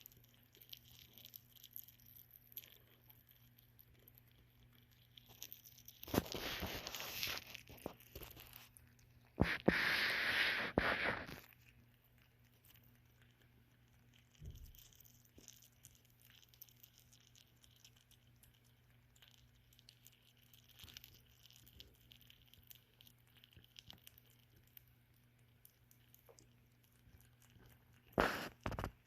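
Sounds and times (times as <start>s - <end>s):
rabbit chewing: 0.0s - 29.0s.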